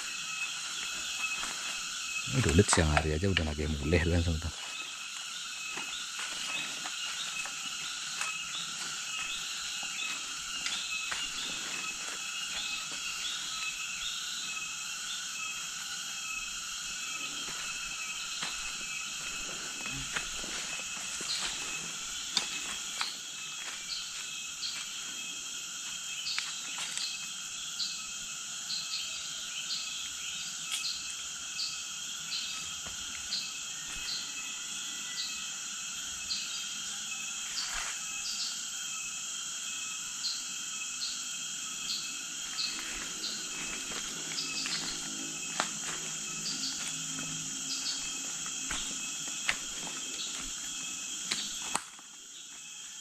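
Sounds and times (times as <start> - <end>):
insect chirp: 0.0 - 53.0
insect drone: 0.0 - 53.0.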